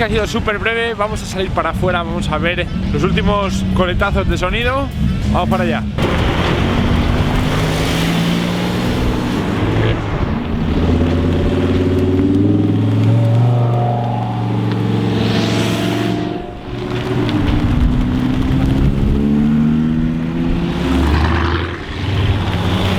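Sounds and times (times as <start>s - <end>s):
sports car engines running: 1.9s - 22.9s.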